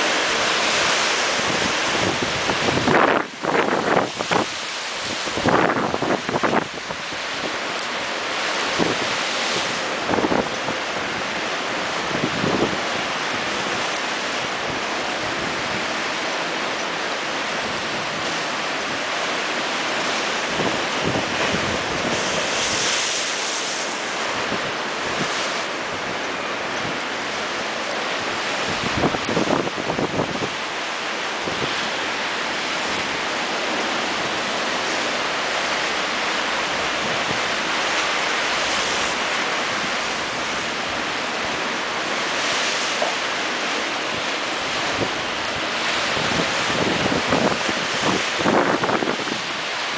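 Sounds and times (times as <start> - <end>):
wind on the microphone: 0.0 - 16.4, 17.1 - 49.9
surf rushing: 0.0 - 49.9
waves hitting a wall: 0.0 - 49.9.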